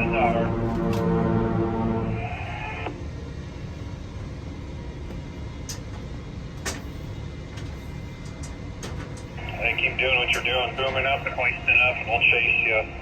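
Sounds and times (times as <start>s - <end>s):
crane machinery rumbling: 0.0s - 13.0s.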